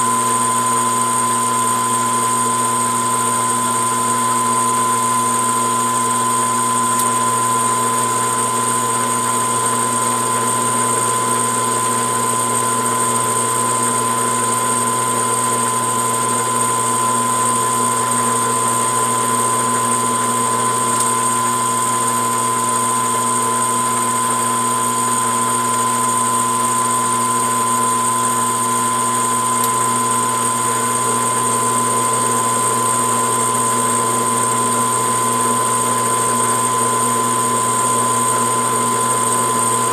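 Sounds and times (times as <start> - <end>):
metal lathe humming and whining: 0.0 - 39.9.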